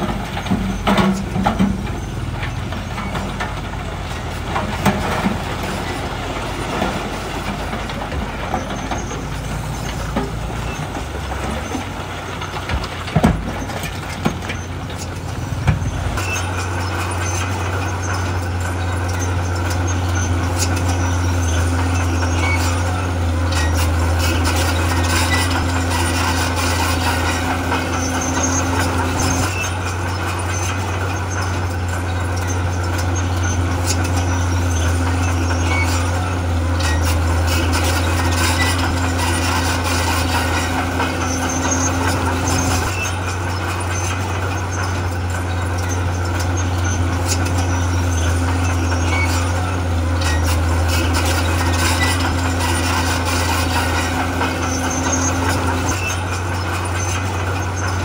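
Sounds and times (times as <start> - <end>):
diesel engine low drone: 0.0 - 58.0.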